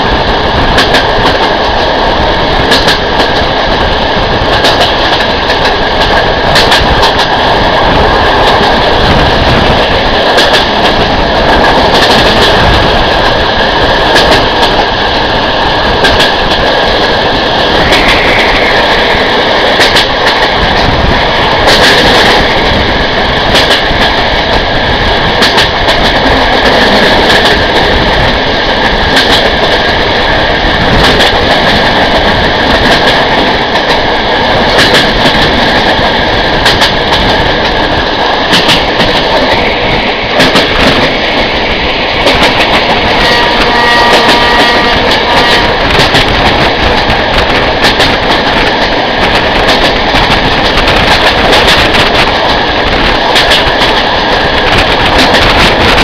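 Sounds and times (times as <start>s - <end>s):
wheels clicking over rail joints: 0.0s - 18.3s, 19.5s - 56.0s
train rumbling at speed: 0.0s - 56.0s.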